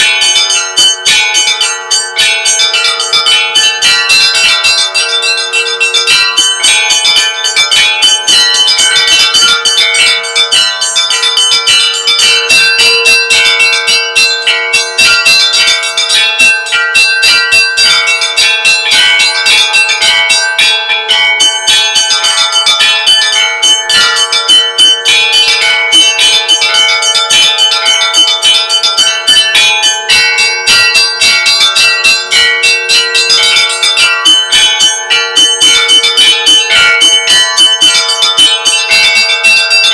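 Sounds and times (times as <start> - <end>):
large bell ringing: 0.0 - 39.9
small bells ringing rapidly: 0.0 - 39.9.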